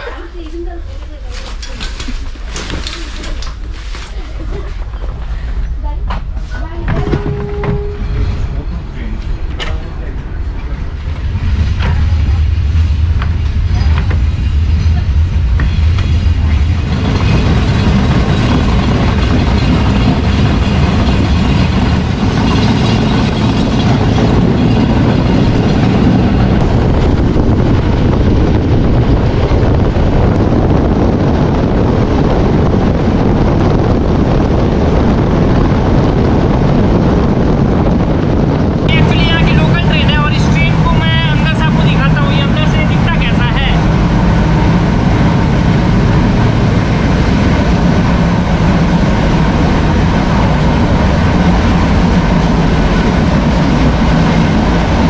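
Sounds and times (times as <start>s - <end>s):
train rumbling on rails: 0.0s - 55.0s
low hum: 1.9s - 55.0s
rushing air: 7.4s - 55.0s.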